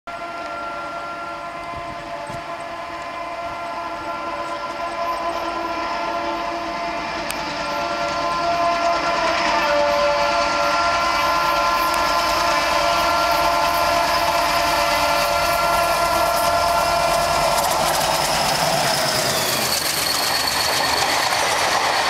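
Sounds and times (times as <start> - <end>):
locomotive horn blowing: 0.1 - 21.8.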